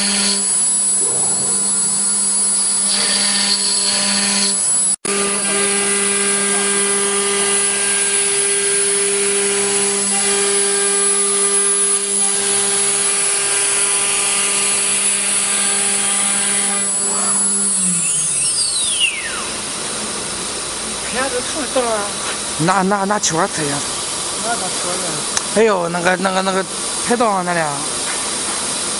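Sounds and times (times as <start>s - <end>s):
router spindle whining: 0.0s - 28.9s.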